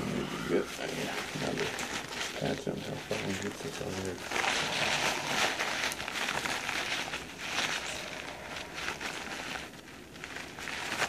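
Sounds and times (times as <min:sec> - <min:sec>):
paper towel crinkling and rustling: 0:00.0 - 0:11.0.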